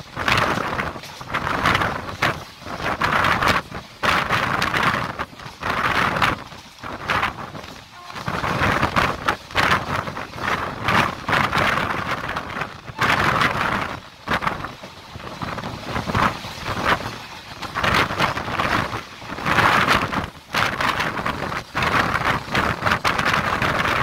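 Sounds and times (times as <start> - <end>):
train wheels rumbling on rails: 0.0 - 24.0
wind buffeting microphone: 0.0 - 24.0.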